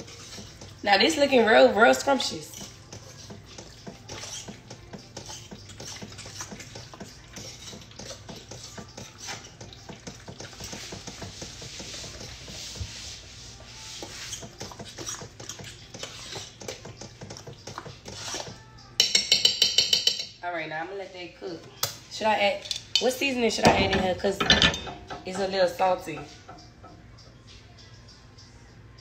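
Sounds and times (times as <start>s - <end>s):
spoon scraping a pot: 0.0s - 20.4s, 22.5s - 27.0s.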